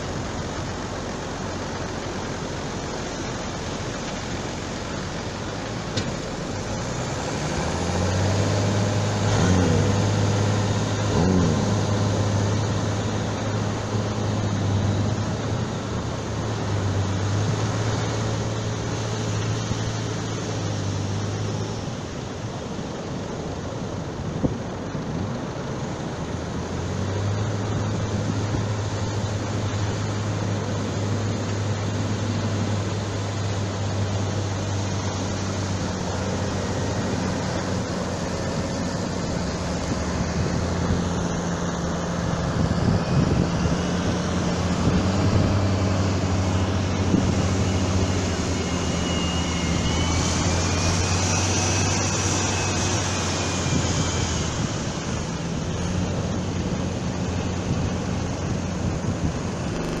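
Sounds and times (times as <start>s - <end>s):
engine droning: 0.0s - 60.0s.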